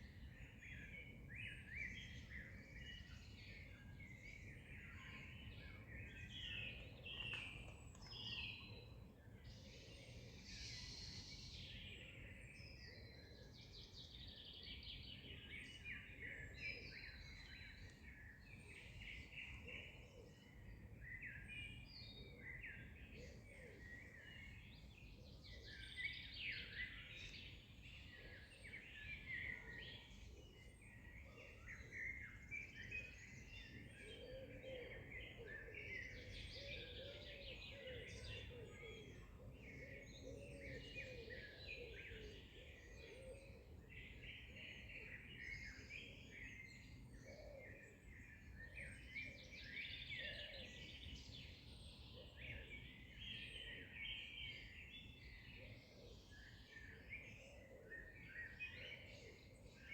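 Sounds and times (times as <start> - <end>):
lower wavering birdsong: 0.0 - 59.9
songbirds chirping and singing: 0.0 - 59.9.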